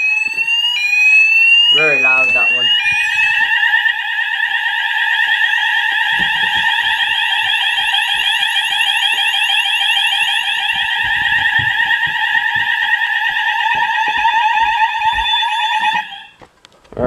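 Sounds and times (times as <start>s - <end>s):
fast sweeping alarm tone: 0.0s - 16.4s
steady fire alarm tones: 0.0s - 16.4s.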